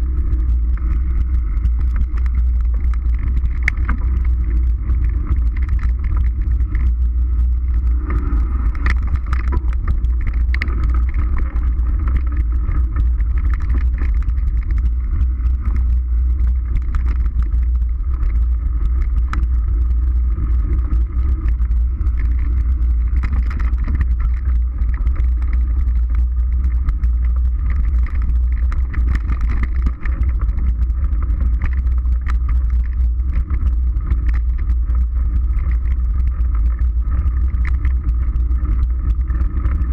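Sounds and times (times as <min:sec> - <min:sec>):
bike clicks and rattles: 0:00.0 - 0:39.9
wind rumble on microphone: 0:00.0 - 0:39.9.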